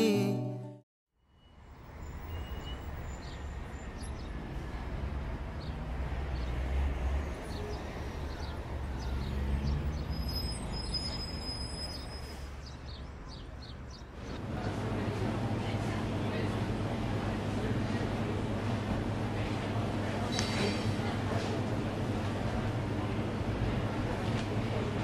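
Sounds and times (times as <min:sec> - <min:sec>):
traffic rumble: 0:01.6 - 0:25.0.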